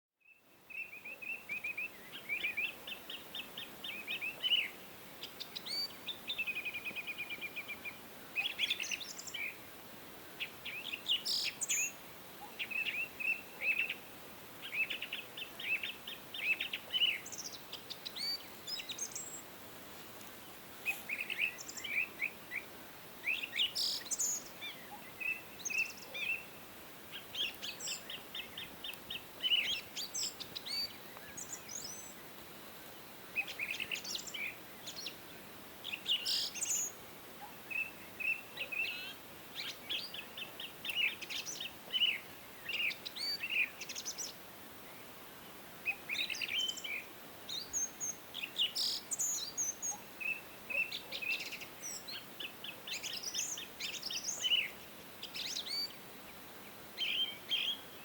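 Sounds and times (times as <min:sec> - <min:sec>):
faint steady hiss: 0:00.2 - 0:58.0
songbirds chirping and trilling: 0:00.2 - 0:58.0.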